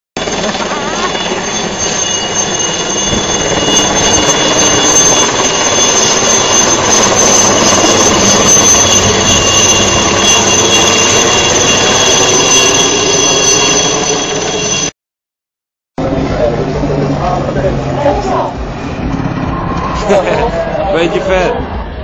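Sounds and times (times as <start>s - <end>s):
helicopter flying overhead: 0.2s - 14.9s, 16.0s - 22.0s.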